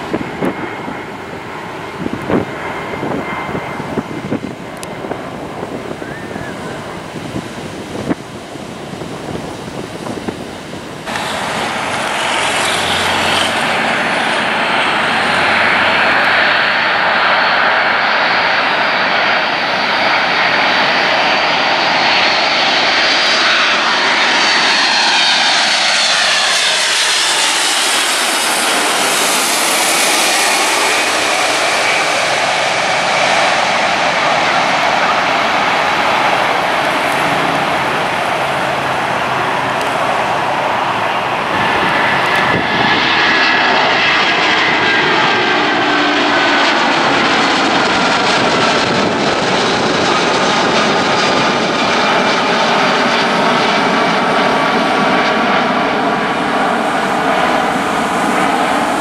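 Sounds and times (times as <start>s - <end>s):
wind on microphone: 0.0s - 23.0s, 23.6s - 46.1s, 46.7s - 59.0s
distant jet: 0.0s - 59.0s
jet airliner passing overhead: 0.0s - 59.0s.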